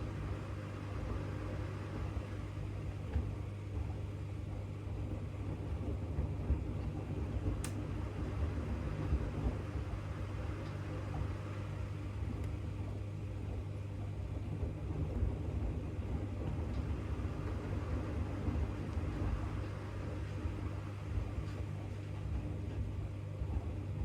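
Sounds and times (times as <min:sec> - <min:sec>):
washing machine hum and rumble: 0:00.0 - 0:24.0.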